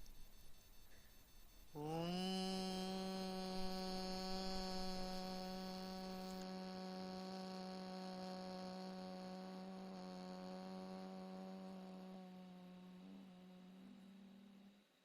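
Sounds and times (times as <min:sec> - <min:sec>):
person chanting a long tone: 0:01.7 - 0:15.0.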